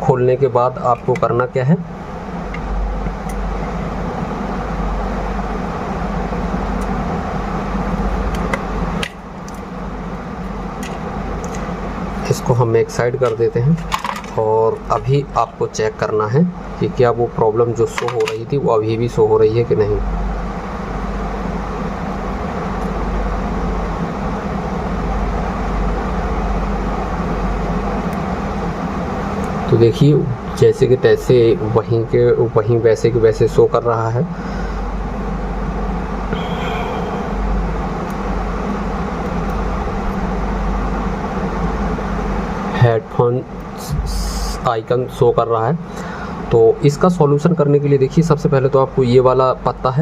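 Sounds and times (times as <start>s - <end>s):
mechanical hum with low drone: 0.0s - 50.0s.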